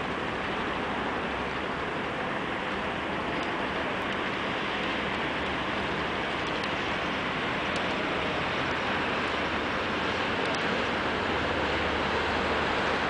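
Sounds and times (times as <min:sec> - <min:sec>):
distant road traffic hiss: 0:00.0 - 0:13.0.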